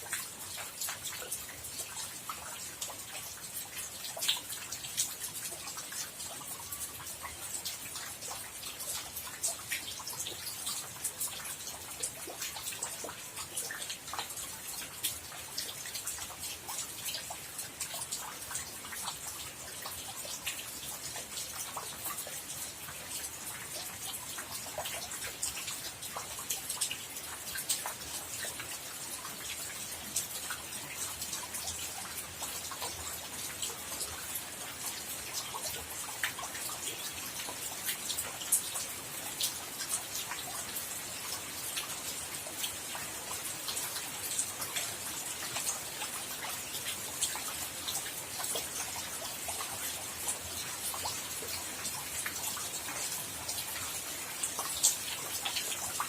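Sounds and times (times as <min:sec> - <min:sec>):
raindrops dripping close by: 0:00.0 - 0:56.0
steady rain falling: 0:00.0 - 0:56.0.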